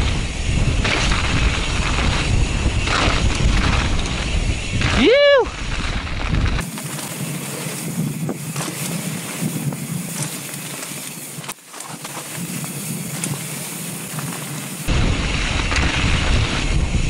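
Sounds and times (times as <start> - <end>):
bike clicks and rattles: 0.0 - 17.0
bike tyre noise on dirt: 0.0 - 17.0
wind buffeting microphone: 0.0 - 17.0.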